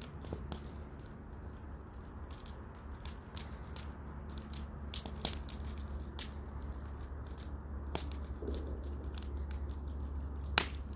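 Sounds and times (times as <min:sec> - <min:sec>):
sharp fire pops: 0:00.0 - 0:10.9
wood fire crackling: 0:00.0 - 0:10.9.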